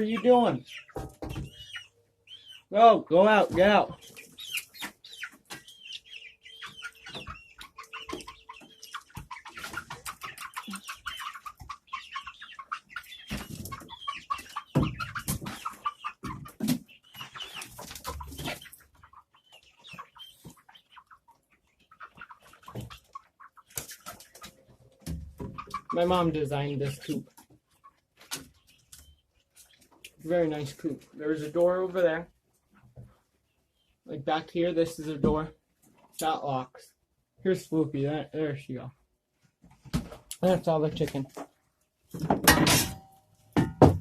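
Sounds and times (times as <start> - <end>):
hens clucking and squawking: 0.0 - 44.0.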